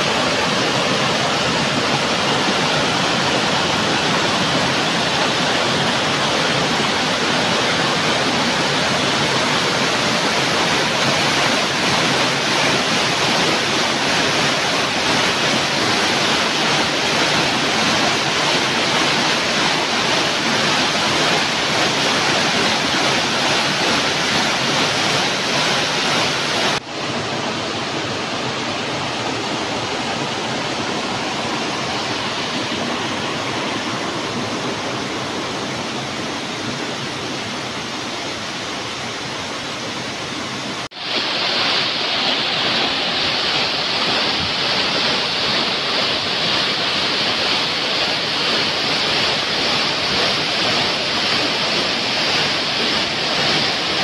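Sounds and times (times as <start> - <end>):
waterfall roaring over rocks: 0.0 - 54.0.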